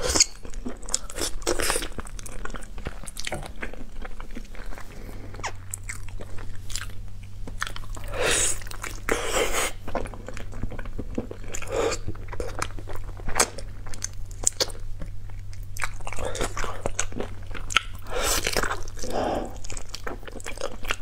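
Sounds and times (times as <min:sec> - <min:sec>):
low steady hum: 0:00.0 - 0:21.0
wet chewing and mouth smacking: 0:00.1 - 0:21.0.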